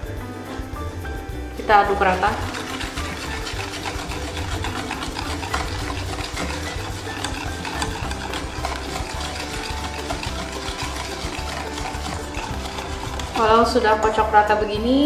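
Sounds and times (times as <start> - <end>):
whisk beating in metal bowl: 1.6 - 14.4.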